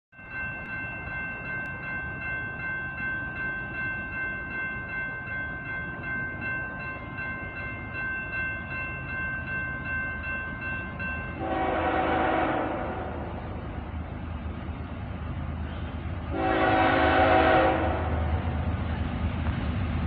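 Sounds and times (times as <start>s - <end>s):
railroad crossing bell ringing: 0.1s - 14.6s, 15.6s - 18.8s.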